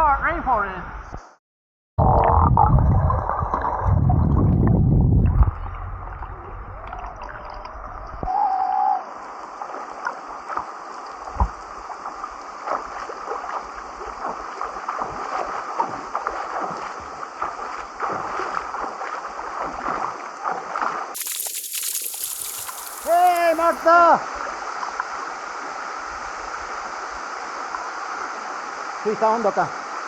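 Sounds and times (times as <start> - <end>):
river water splashing and gurgling: 2.0 - 8.2, 9.1 - 29.0.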